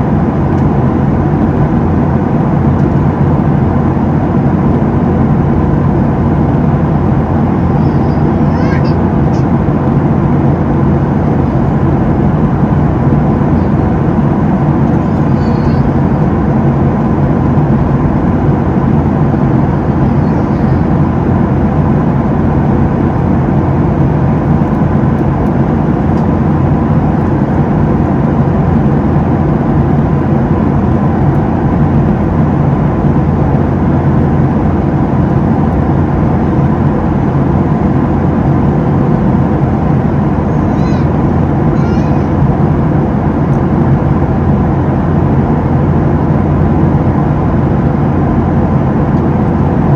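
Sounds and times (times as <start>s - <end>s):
air rushing in aircraft cabin: 0.0s - 49.9s
constant low hum: 0.0s - 49.9s
jet engines droning: 0.0s - 49.9s.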